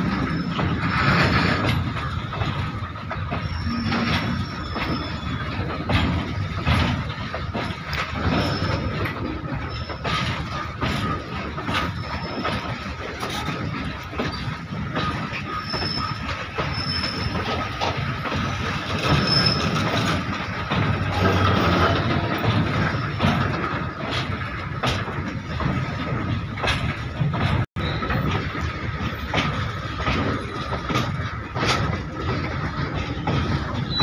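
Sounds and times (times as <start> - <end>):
train wheels rumbling on rail: 0.0 - 34.0
wheels knocking over rail joints: 0.0 - 34.0
wheels squealing: 0.0 - 34.0.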